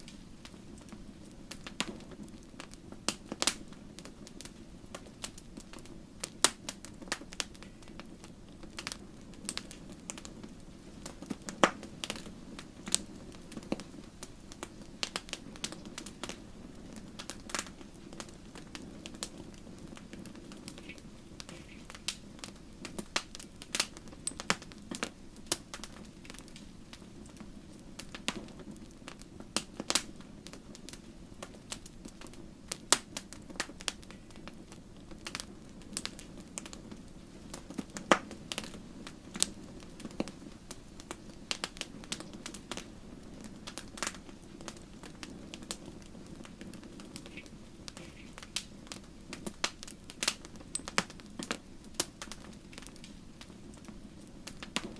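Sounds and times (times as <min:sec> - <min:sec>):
burning logs popping: 0:00.0 - 0:54.9
low hiss of flame: 0:00.0 - 0:54.9
wood fire crackling: 0:00.0 - 0:54.9.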